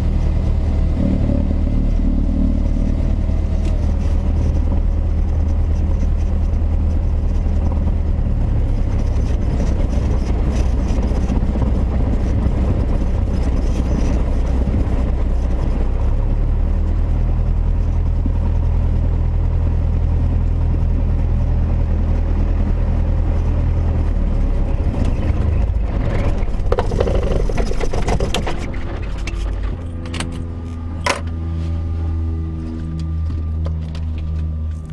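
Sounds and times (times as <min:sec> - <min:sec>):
airplane engine and propeller droning: 0:00.0 - 0:34.9.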